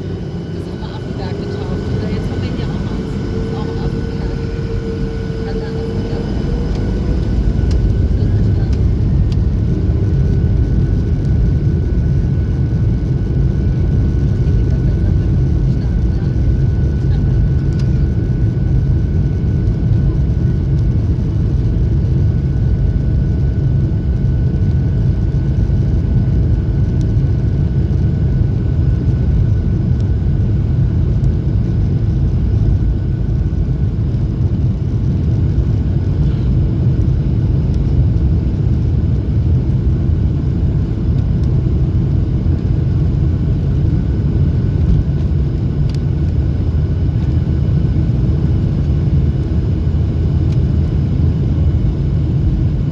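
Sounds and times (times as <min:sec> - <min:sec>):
faint steady whine: 0:00.0 - 0:52.9
jet engine roar in cabin: 0:00.0 - 0:52.9.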